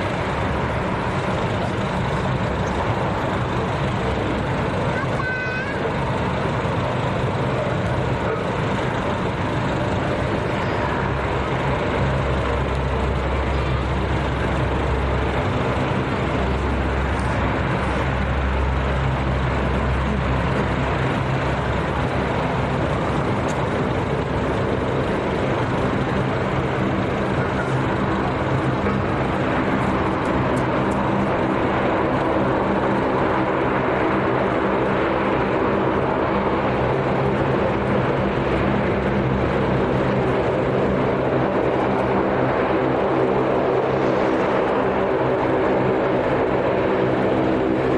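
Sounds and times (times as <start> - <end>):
aircraft engines rumbling: 0.0 - 47.9.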